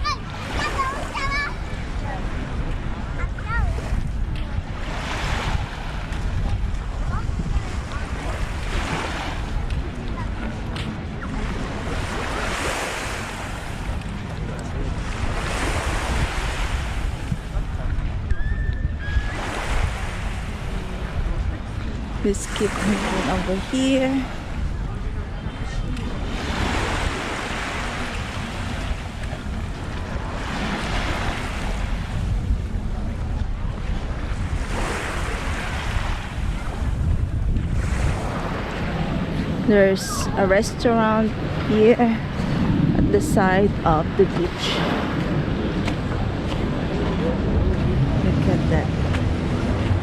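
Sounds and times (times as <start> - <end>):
small waves washing on beach: 0.0 - 50.0
wind rumbling on microphone: 0.0 - 50.0.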